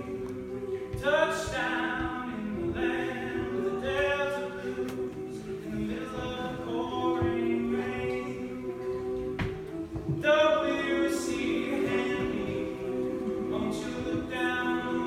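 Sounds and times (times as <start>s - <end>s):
male a cappella group singing: 0.0s - 9.2s, 10.2s - 15.0s.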